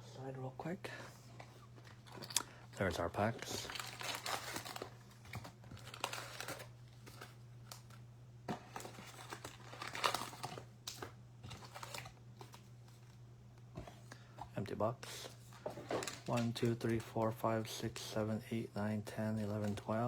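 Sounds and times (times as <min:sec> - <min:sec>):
steady low hum: 0:00.0 - 0:20.0
card packs crinkling: 0:00.6 - 0:13.2, 0:14.6 - 0:20.0.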